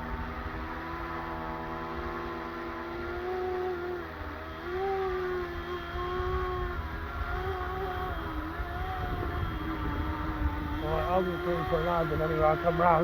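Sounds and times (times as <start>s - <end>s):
rc helicopter motor whining: 0.0s - 13.0s.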